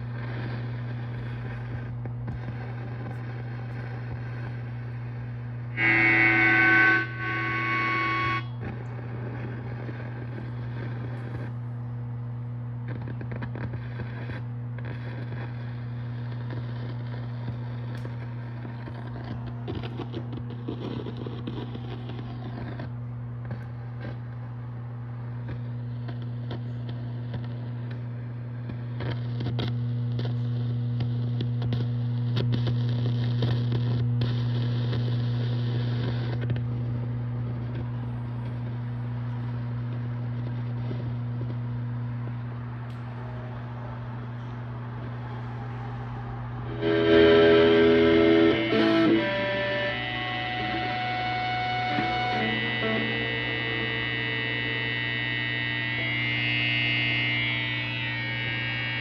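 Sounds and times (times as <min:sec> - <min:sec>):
crackling and hiss: 0:00.0 - 0:11.8, 0:12.4 - 0:24.5, 0:25.2 - 0:59.0
guitar amplifier hum: 0:00.0 - 0:59.0.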